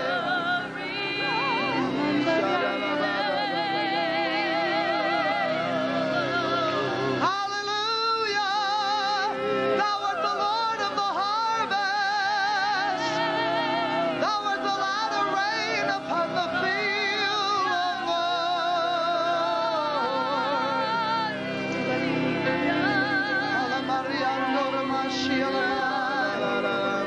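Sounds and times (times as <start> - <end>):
congregation singing wavering notes: 0.0 - 27.0.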